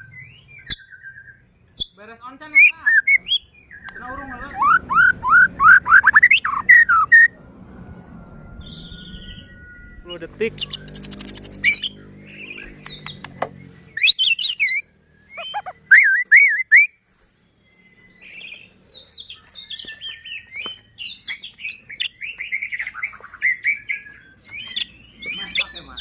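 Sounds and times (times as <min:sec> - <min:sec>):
songbird singing trills and whistles: 0:00.0 - 0:26.0.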